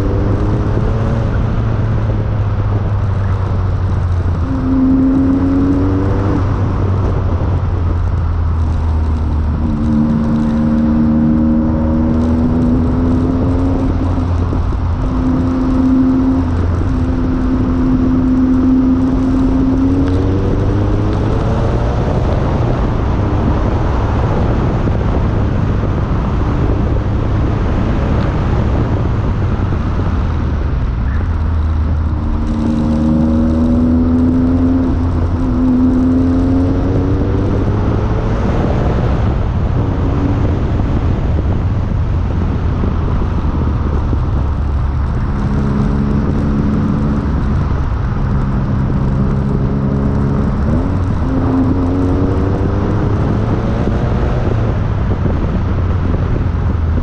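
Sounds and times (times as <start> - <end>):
car engine revving at speed: 0.0 - 57.0
wind and road noise: 0.0 - 57.0.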